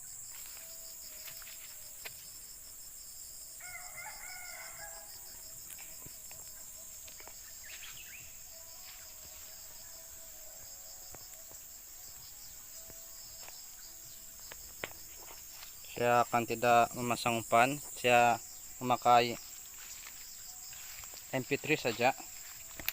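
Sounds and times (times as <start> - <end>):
crickets and insects chirping: 0.0 - 22.9.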